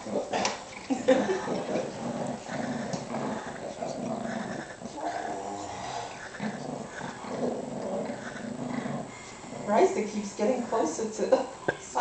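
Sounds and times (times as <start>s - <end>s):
small dogs growling: 0.0s - 10.2s.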